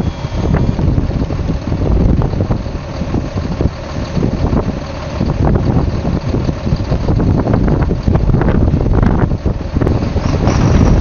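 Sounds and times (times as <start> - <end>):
diesel truck engine running: 0.0 - 11.0
wind buffeting microphone: 0.0 - 11.0.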